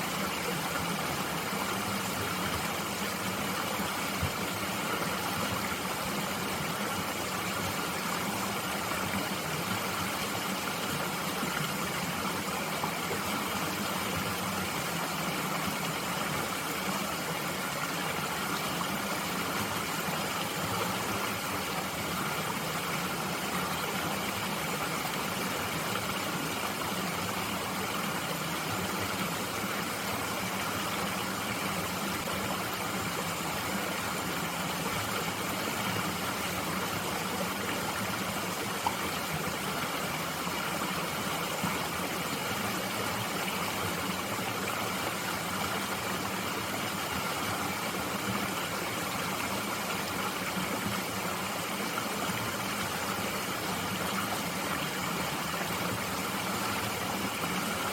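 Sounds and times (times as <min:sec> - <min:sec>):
stream babbling over rocks: 0:00.0 - 0:57.9.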